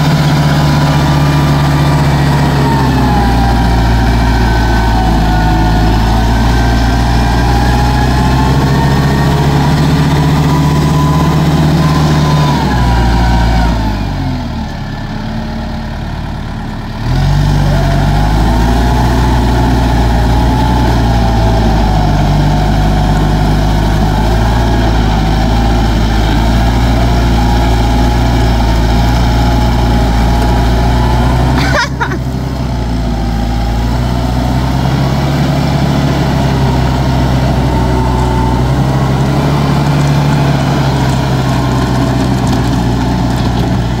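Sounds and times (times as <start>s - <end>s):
pitched whine: 0.0s - 14.4s, 17.5s - 43.7s
tractor diesel engine running: 0.0s - 44.0s.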